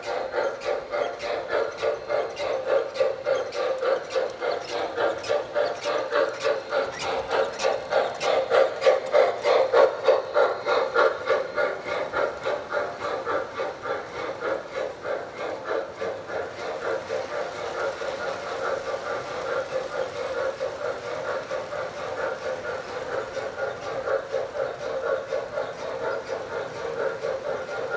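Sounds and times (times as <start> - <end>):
model freight cars rolling on track: 0.0 - 27.9
model steam locomotive chuffing: 0.0 - 27.9.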